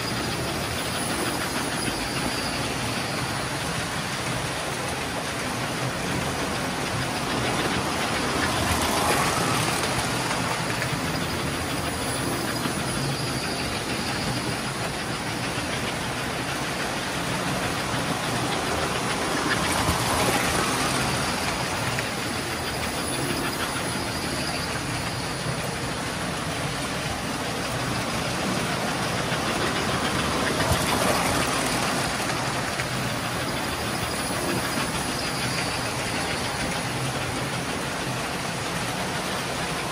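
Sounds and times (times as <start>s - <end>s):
toy trains whirring on metal rails: 0.0s - 39.9s.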